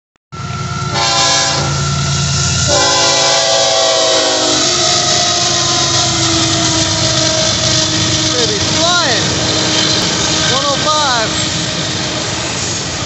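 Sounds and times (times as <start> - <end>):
passing train rumble: 0.3 - 13.0
locomotive air horn: 0.8 - 12.2.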